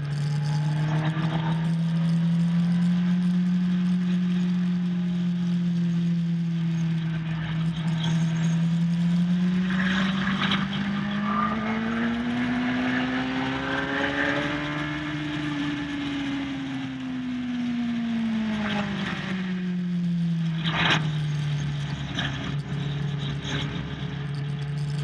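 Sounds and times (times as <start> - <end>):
motorcycle engine running hard: 0.0 - 25.0.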